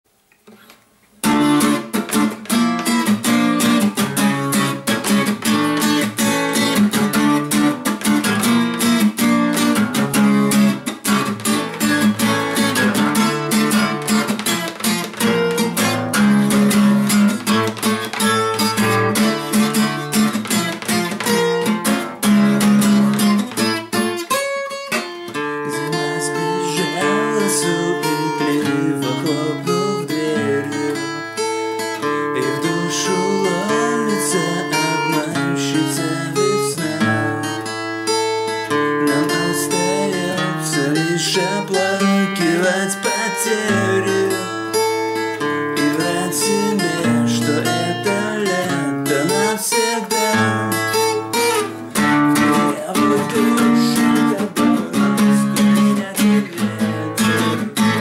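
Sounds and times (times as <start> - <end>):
acoustic guitar strumming: 0.3 - 58.0.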